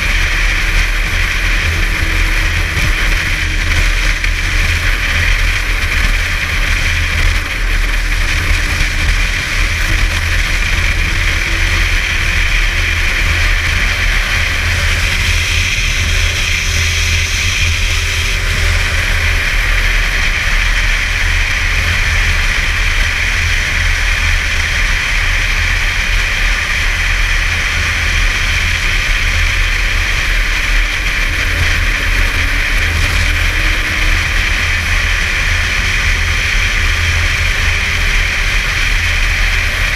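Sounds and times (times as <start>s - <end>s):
snowmobile engine running: 0.0s - 39.9s
wind and track noise: 0.0s - 39.9s.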